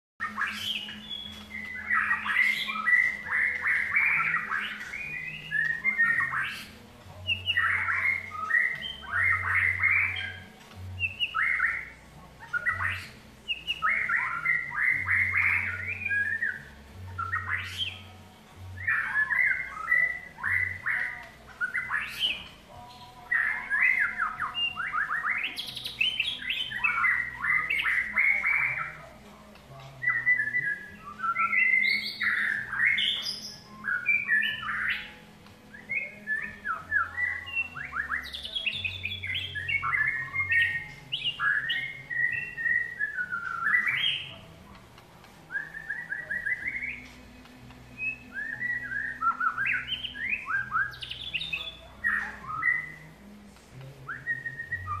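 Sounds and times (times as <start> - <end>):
bird singing whistled phrases: 0.2 - 18.1, 18.8 - 29.0, 30.0 - 44.5, 45.5 - 53.2, 54.1 - 55.0.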